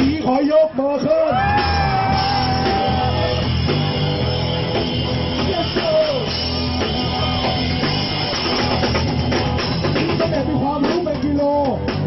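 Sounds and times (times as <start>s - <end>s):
live rock band playing: 1.0s - 12.0s.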